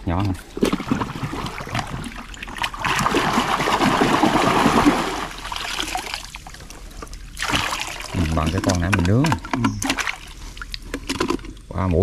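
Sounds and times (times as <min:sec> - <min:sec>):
shallow water splashing: 0:00.5 - 0:11.7.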